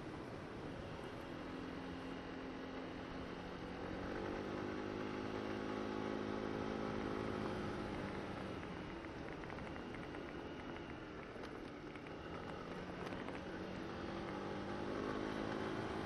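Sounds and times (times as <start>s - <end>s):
scooter engine running: 1.0s - 16.0s.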